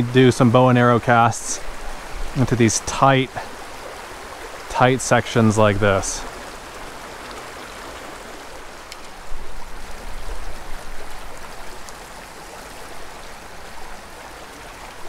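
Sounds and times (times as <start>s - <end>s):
creek flowing: 0.0s - 15.0s.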